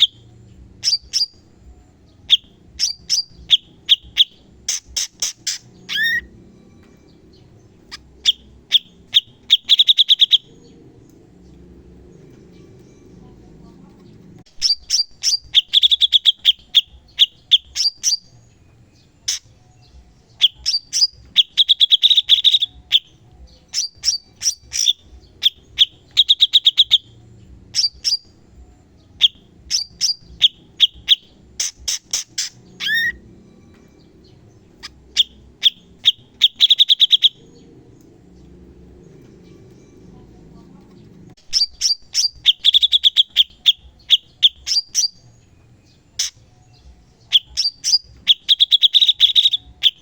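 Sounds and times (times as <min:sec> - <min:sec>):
bird chirps and trills: 0:00.0 - 0:50.0.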